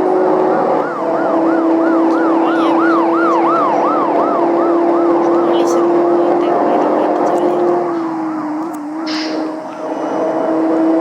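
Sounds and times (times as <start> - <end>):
emergency siren wailing: 0.0 - 11.0
vehicle drone: 0.0 - 11.0.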